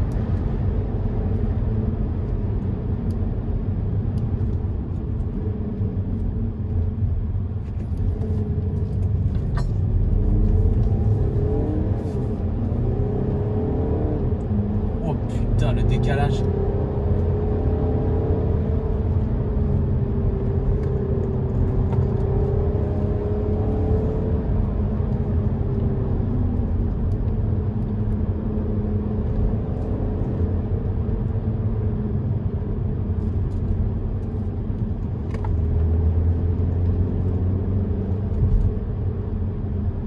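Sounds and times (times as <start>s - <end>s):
car engine hum: 0.0s - 40.0s
tyre and road rumble: 0.0s - 40.0s.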